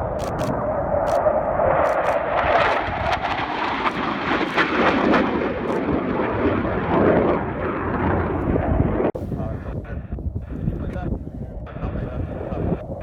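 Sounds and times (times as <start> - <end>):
jet engine rush: 0.0 - 13.0.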